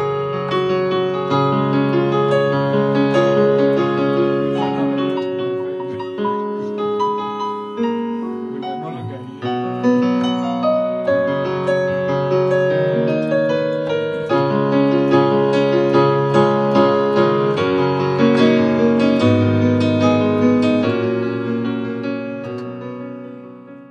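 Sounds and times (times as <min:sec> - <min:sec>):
piano chords: 0:00.0 - 0:23.9.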